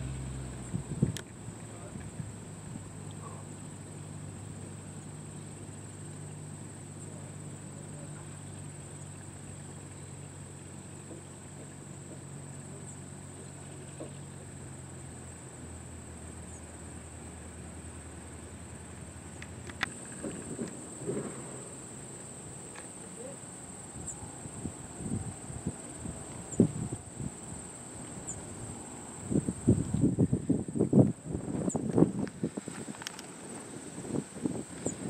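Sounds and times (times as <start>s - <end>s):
distant propeller plane engine: 0.0s - 35.0s
insect trill: 0.0s - 35.0s.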